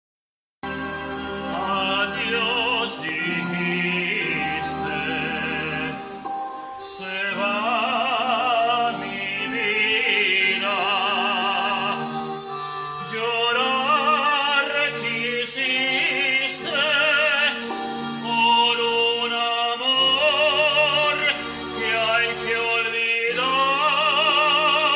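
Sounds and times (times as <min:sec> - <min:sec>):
instrumental accompaniment with bass: 0:00.6 - 0:24.9
man singing operatically: 0:01.4 - 0:06.2, 0:06.8 - 0:24.9.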